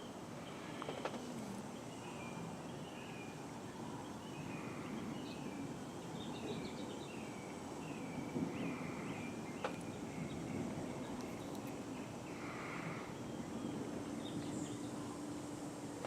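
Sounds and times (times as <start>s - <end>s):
birds chirping: 0.0s - 16.0s
outdoor background noise: 0.0s - 16.0s.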